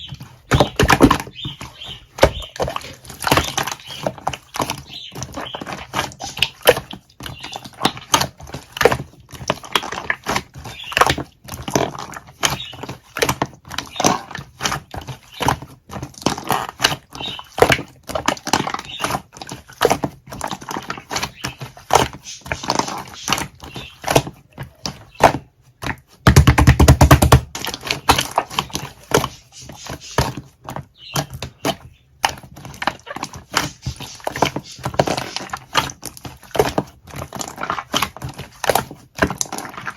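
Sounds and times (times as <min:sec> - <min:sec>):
sticky clicks and squishes: 0:00.0 - 0:39.9.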